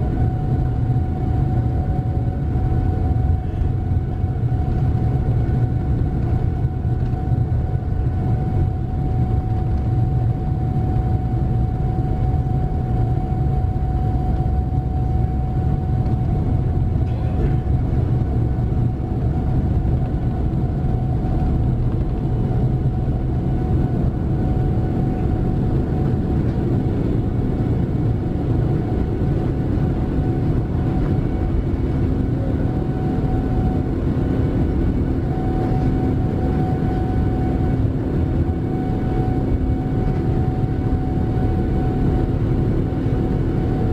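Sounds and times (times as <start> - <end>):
constant whining tone: 0.0 - 43.9
jet engines roaring: 0.0 - 43.9.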